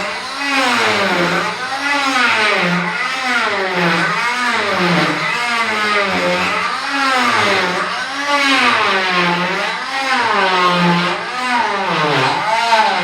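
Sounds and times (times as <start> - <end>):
oscillating multi-tool cutting: 0.0 - 13.0.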